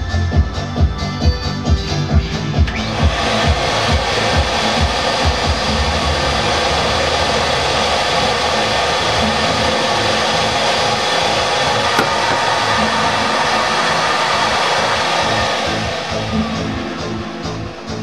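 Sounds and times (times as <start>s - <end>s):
vacuum cleaner running: 2.4s - 18.0s.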